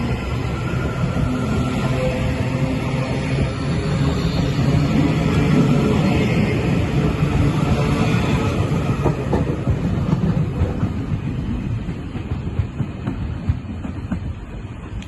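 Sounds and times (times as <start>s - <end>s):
train wheel and rail rumble: 0.0s - 15.0s.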